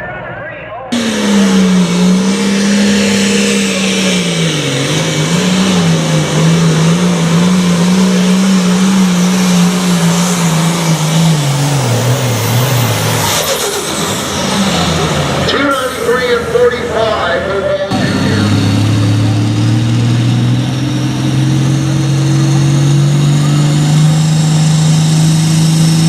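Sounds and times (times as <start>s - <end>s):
diesel engine at full throttle: 0.9s - 26.0s.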